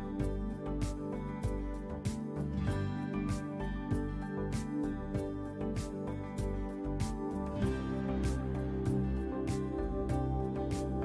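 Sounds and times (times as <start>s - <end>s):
music with plucked guitar: 0.0s - 11.0s.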